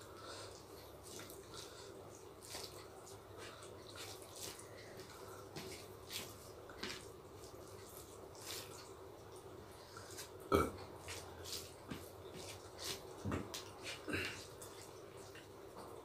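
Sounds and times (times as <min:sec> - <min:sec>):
people eating with wet smacks: 0:00.0 - 0:16.0.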